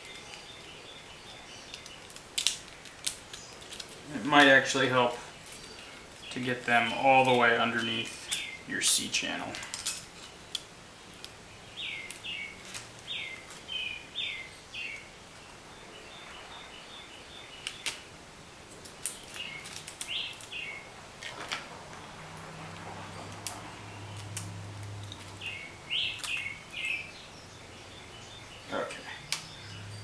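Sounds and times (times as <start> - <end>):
bird chirping: 0.0 - 2.2, 3.2 - 9.6, 10.4 - 18.1, 18.8 - 21.0, 21.7 - 30.0.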